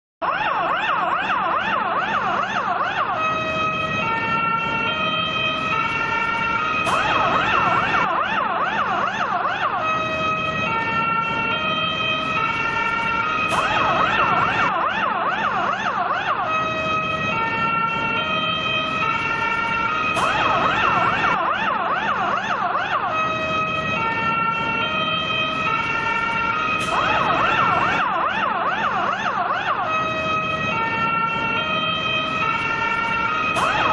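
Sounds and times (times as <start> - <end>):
fire engine siren: 0.2 - 33.9.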